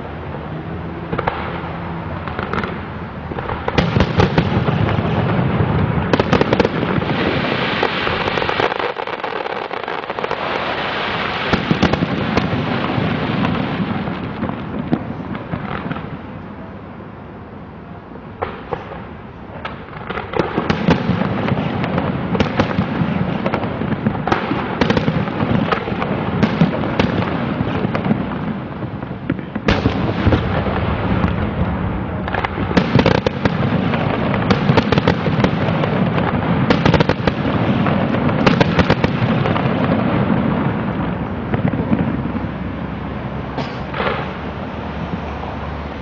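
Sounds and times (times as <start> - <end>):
fireworks bursting: 1.0 - 16.5, 18.4 - 46.0.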